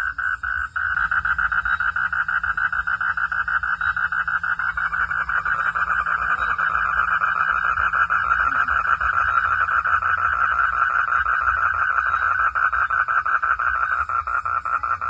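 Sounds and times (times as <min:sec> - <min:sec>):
frogs calling in chorus: 0:00.0 - 0:15.0.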